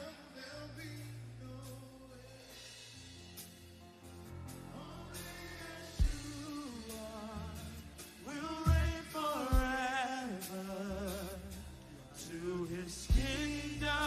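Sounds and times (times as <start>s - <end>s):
person singing with vibrato: 0.0s - 3.0s, 4.6s - 14.0s
gospel music: 0.0s - 14.0s
sustained keyboard chords: 0.0s - 14.0s.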